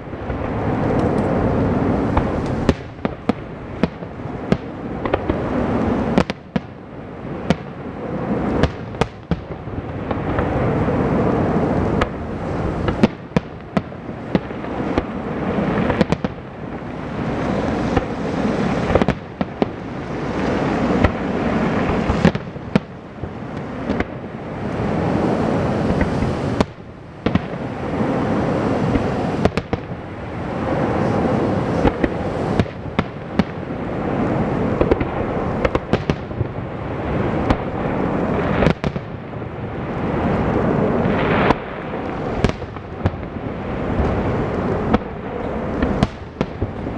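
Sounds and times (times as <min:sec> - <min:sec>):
continuous rumble: 0:00.0 - 0:46.9.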